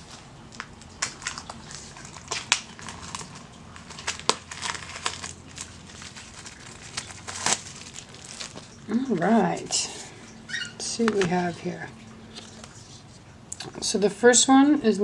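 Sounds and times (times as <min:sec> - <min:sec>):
plastic shrink-wrap crinkling: 0:00.0 - 0:13.3.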